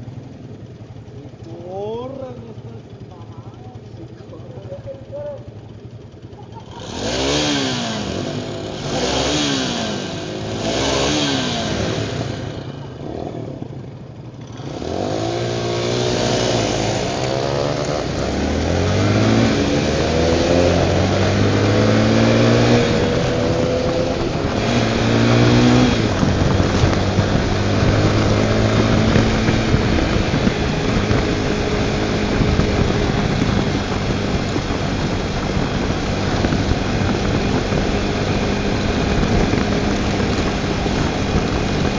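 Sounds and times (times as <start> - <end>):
motorcycle accelerating through gears: 0.0 - 41.9
motorcycle engine revving: 0.0 - 41.9.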